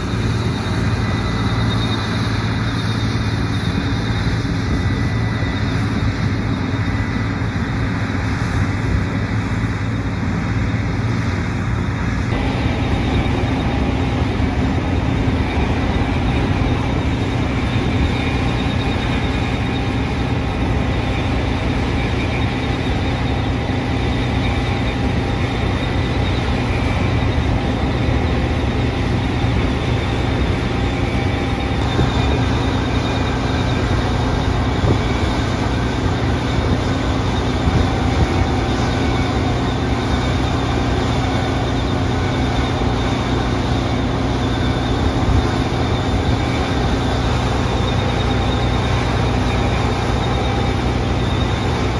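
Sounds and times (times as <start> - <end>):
combine harvester running: 0.0 - 51.9.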